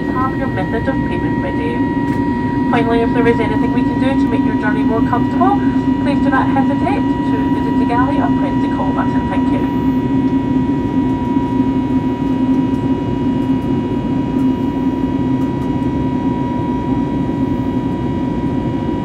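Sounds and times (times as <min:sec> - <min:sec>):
jet engine rumble and whine: 0:00.0 - 0:19.0.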